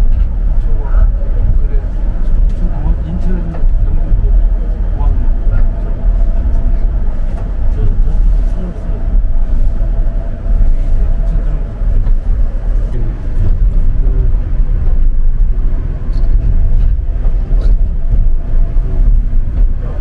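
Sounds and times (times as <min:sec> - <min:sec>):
faint steady hum: 0:00.0 - 0:20.0
monorail car rumbling on track: 0:00.0 - 0:20.0.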